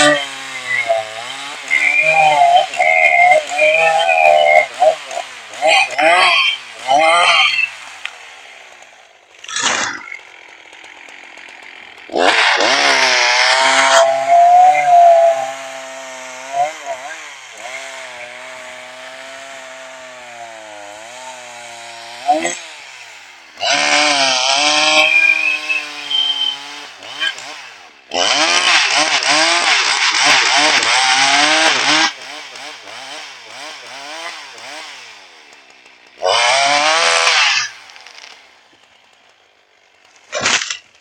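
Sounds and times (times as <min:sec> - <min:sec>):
chainsaw idling and revving: 0:00.0 - 0:41.0.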